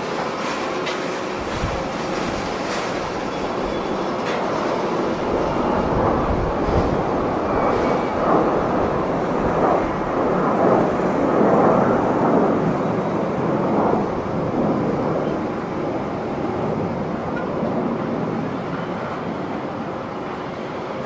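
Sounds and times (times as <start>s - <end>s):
jet engine rush: 0.0s - 21.0s.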